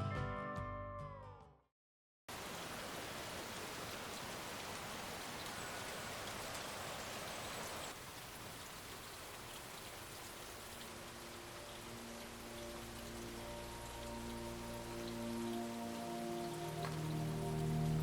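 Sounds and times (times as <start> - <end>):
steady rain falling: 2.3 - 18.0.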